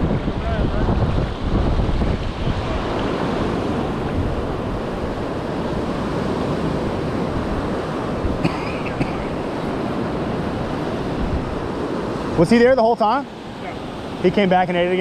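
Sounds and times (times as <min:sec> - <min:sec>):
small waves breaking in shallows: 0:00.0 - 0:15.0.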